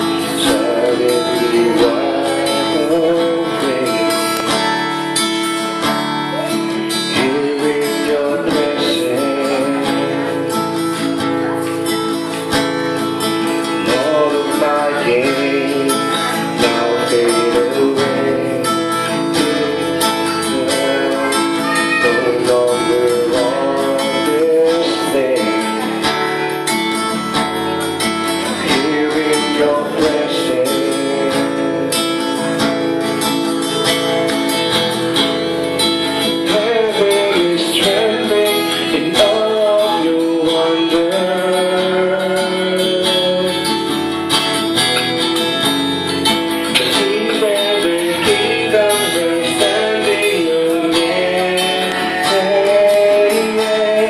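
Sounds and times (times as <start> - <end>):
man singing: 0.0 - 12.3, 12.9 - 54.0
acoustic guitar strumming: 0.0 - 54.0.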